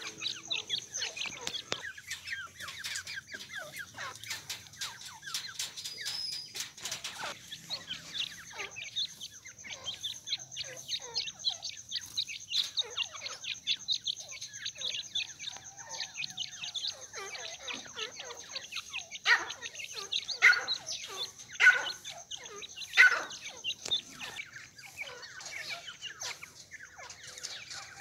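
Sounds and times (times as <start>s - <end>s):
young birds peeping: 0.0s - 28.0s.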